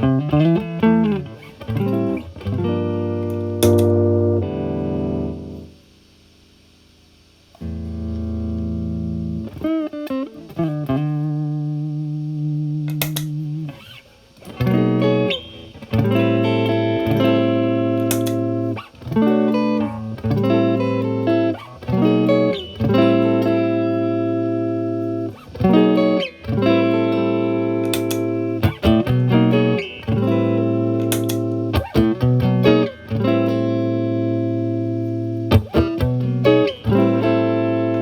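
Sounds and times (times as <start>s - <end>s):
overdriven strummed guitar chords: 0.0s - 6.4s, 7.5s - 38.0s
electric guitar: 0.0s - 38.0s.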